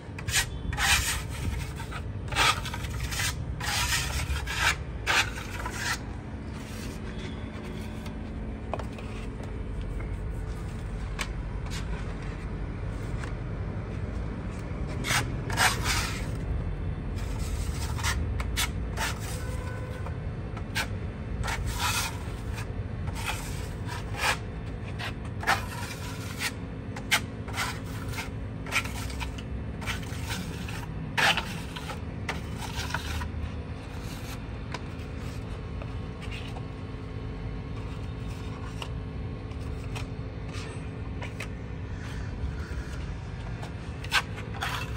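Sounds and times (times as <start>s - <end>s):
hand tool scraping cement wall: 0.1s - 9.5s, 15.0s - 16.4s, 17.2s - 36.7s, 37.8s - 44.9s.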